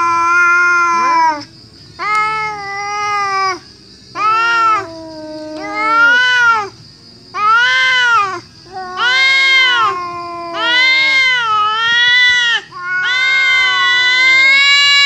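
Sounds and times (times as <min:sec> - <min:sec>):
cats yowling: 0:00.0 - 0:15.0.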